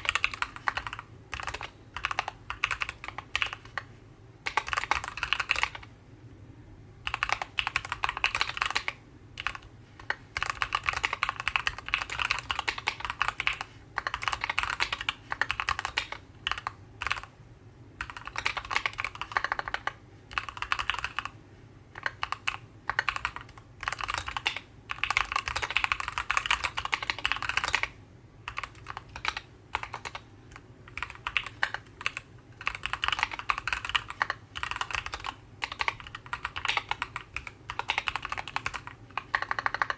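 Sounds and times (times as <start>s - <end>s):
mechanical keyboard typing: 0.0s - 5.9s, 7.0s - 17.3s, 18.0s - 39.9s.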